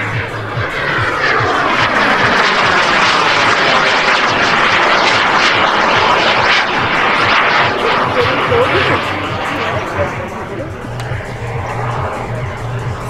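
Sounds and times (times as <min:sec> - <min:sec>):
model jet roar flying past: 0:00.0 - 0:13.0.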